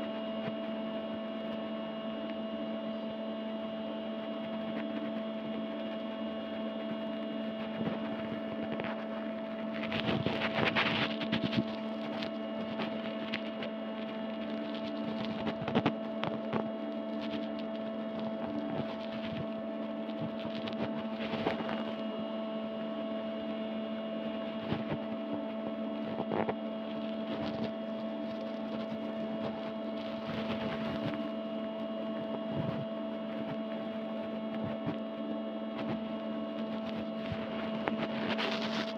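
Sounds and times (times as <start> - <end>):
steady tonal hum: 0.0 - 38.9.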